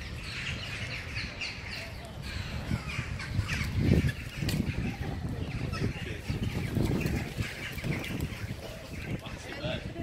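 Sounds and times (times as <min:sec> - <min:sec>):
harsh bird calls: 0:00.0 - 0:10.0.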